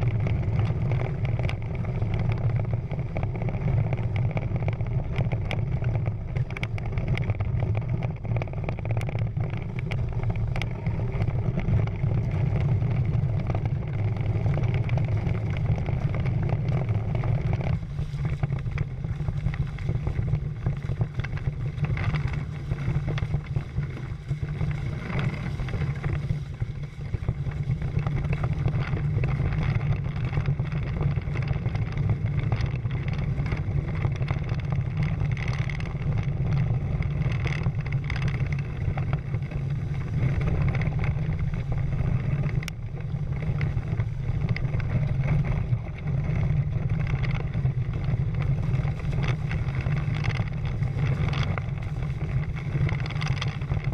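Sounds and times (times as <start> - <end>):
water splashing along hulls: 0.0 - 53.9
wind rumble on microphone: 0.0 - 53.9.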